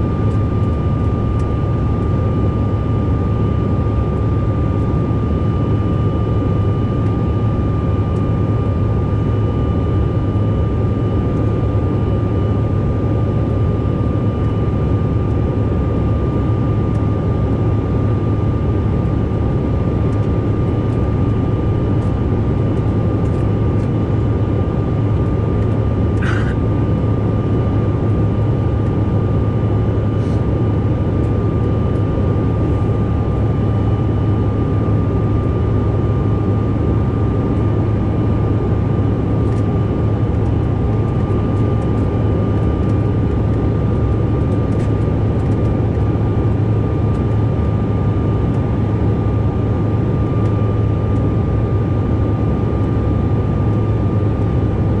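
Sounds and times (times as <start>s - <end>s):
jet engine cabin roar: 0.0s - 55.0s.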